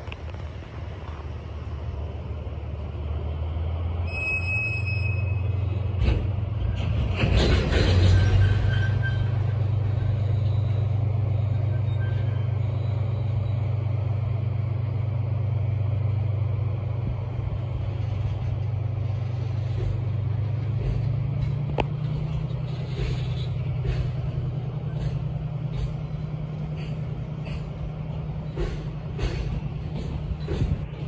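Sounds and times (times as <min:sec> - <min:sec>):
diesel locomotive idling hum: 0:00.0 - 0:31.0.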